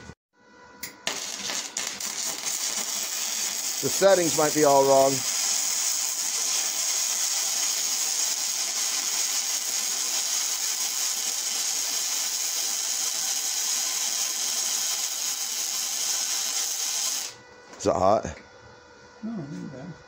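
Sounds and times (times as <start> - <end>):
welding arc hissing: 0.8 - 17.4.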